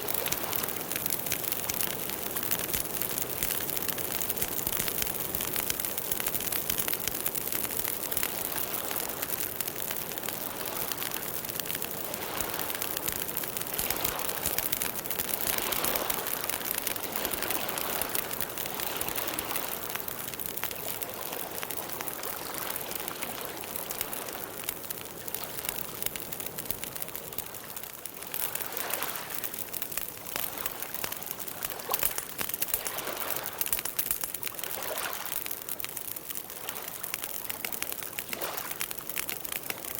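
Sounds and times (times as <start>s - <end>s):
campfire hissing: 0.0s - 39.9s
wood crackling and popping: 0.0s - 39.9s.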